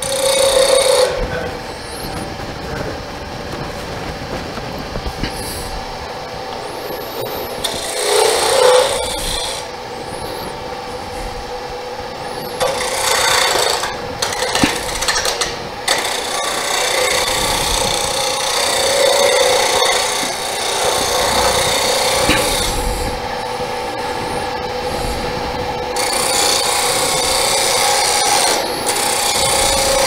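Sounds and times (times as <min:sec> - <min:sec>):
wood lathe humming: 0:00.0 - 0:30.0.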